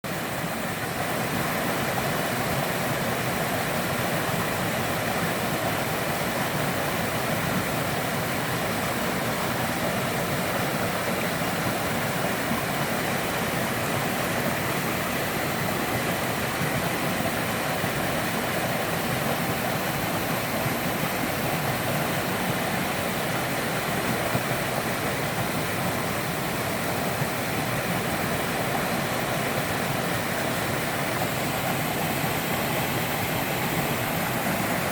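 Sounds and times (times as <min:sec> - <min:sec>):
waterfall pouring and splashing: 0:00.0 - 0:34.9.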